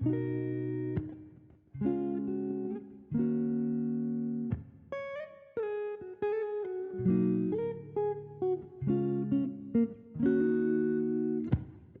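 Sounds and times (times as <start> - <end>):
guitar playing plucked notes: 0.0 - 12.0.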